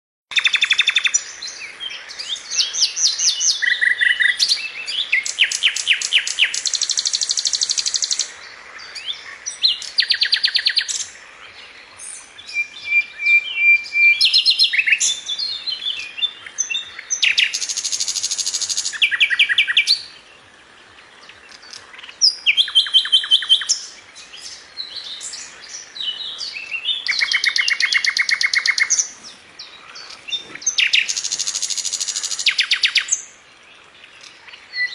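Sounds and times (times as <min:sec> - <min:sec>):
songbirds singing and chirping: 0:00.3 - 0:34.9.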